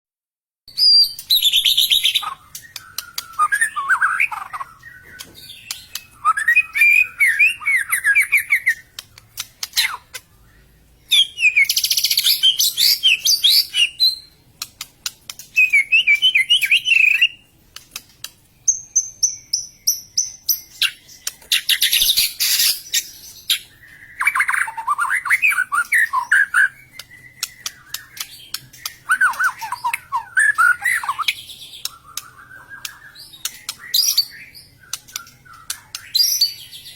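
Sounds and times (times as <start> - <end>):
bird singing whistled phrases: 0.7 - 9.0, 9.7 - 14.4, 15.5 - 17.4, 18.7 - 36.9
harsh bird calls: 0.8 - 14.4, 19.4 - 36.9.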